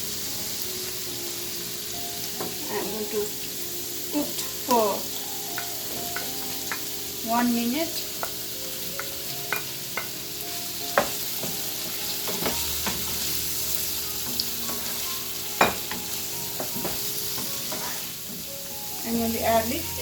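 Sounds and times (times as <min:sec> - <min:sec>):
vegetables sizzling in a frying pan: 0:00.0 - 0:20.0.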